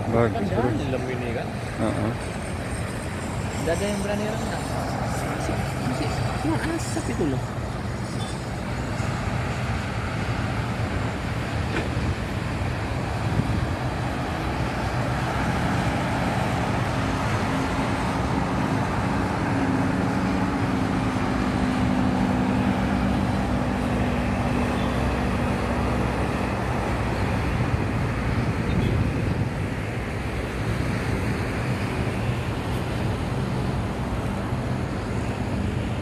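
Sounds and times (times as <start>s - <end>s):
heavy vehicle engine drone: 0.0s - 36.0s
roadside traffic noise: 0.0s - 36.0s.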